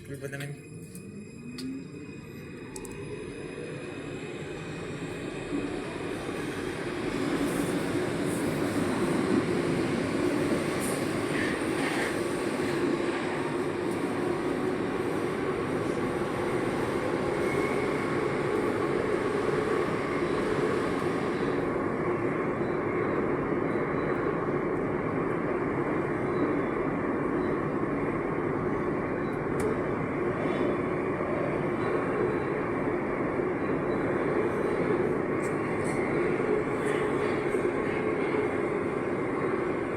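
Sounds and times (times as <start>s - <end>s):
metro train rumbling inside car: 0.0s - 39.9s.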